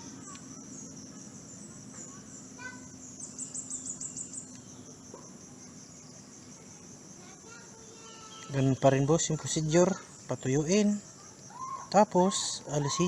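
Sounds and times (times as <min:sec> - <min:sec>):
insects chirring: 0:00.0 - 0:13.0
louder insect chirps: 0:00.0 - 0:13.0.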